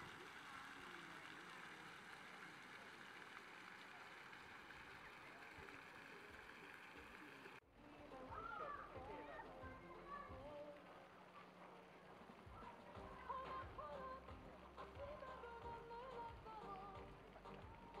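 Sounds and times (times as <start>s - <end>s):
fountain jets splashing on paving: 0.0s - 18.0s.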